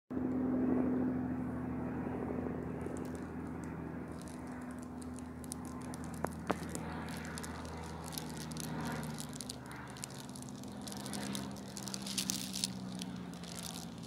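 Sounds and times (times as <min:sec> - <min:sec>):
low engine drone: 0:00.1 - 0:14.0
faint crackles: 0:02.6 - 0:14.0.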